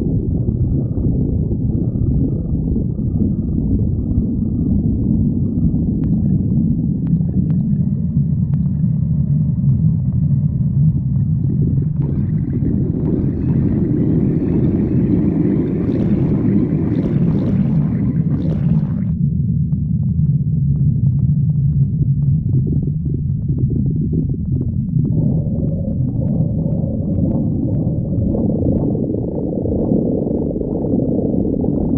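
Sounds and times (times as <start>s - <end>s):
stomach gurgling: 0.0s - 31.9s
stomach rumbling: 0.0s - 31.9s.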